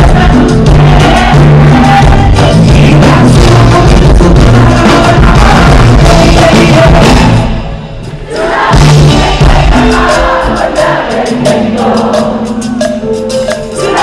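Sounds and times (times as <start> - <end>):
live band playing with singing: 0.0 - 14.0.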